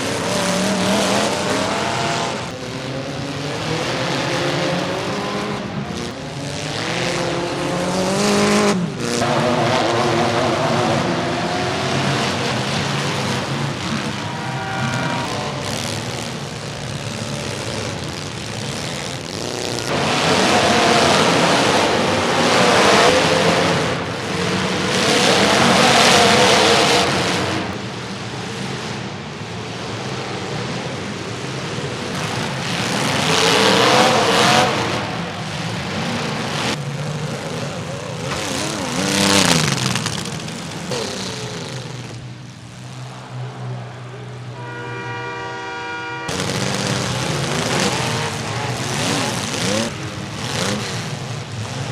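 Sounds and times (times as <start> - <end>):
arena noise: 0.0 - 51.9
car engines revving hard: 0.0 - 51.9.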